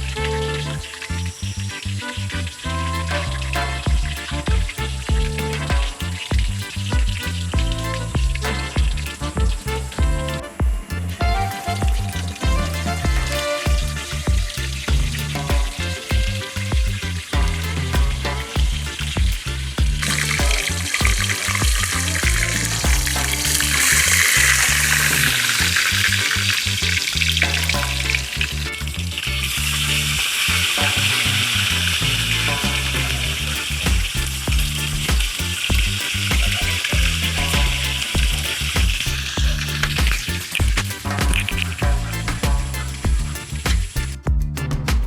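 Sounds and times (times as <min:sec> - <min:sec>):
music with bass beat: 0:00.0 - 0:45.0.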